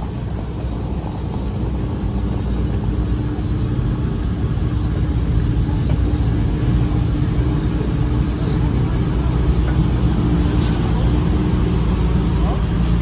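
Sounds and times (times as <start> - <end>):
race car engine droning: 0.0 - 13.0.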